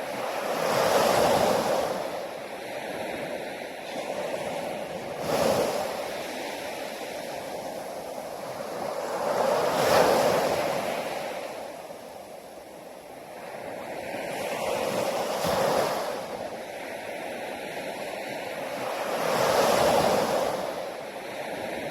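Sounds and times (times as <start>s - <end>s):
sea waves breaking: 0.0s - 21.9s.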